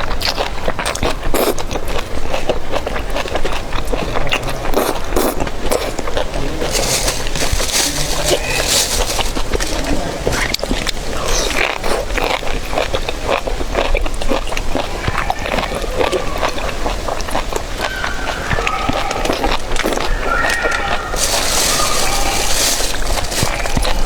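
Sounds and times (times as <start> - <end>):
chewing and biting: 0.0 - 17.9, 19.0 - 24.0.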